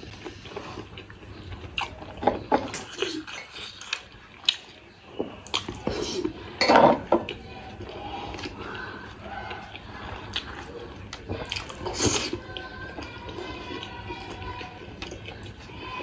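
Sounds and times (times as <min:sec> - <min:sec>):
man chewing: 0:00.0 - 0:15.8.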